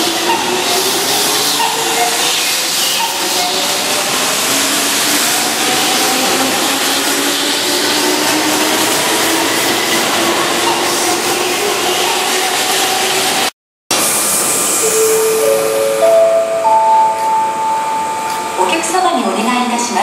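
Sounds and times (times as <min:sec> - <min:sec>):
electric train pulling out: 0:00.0 - 0:20.0.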